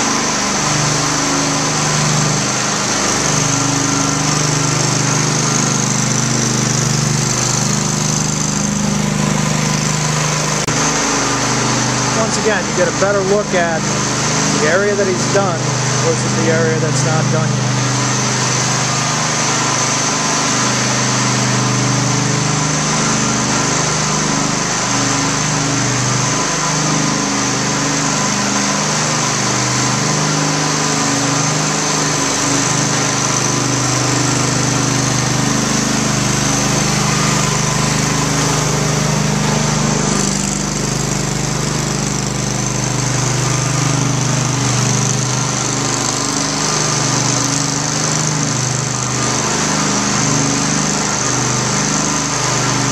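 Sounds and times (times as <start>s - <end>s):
small engine droning: 0.0s - 52.9s.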